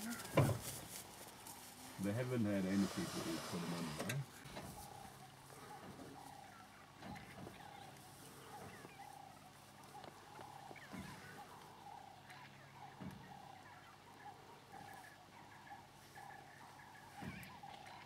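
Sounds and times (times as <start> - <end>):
wild dogs chirping: 0.0 - 18.0.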